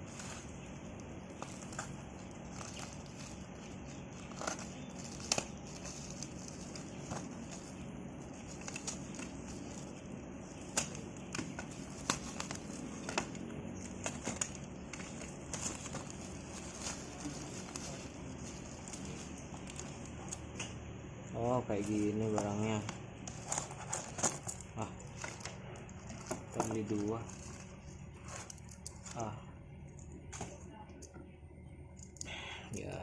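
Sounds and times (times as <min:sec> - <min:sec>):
packaging crinkling and tearing: 0:00.0 - 0:20.6, 0:21.8 - 0:29.3.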